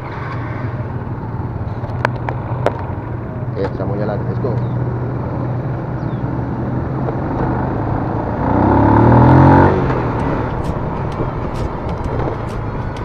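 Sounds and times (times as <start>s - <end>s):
motorcycle engine running: 0.0s - 13.0s
road and wind noise: 0.0s - 13.0s
truck passing: 0.0s - 13.0s.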